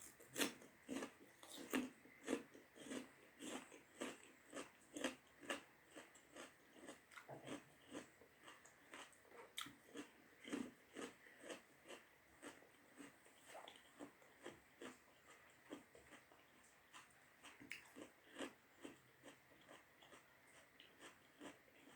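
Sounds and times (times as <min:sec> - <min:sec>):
person chewing: 0:00.0 - 0:21.9.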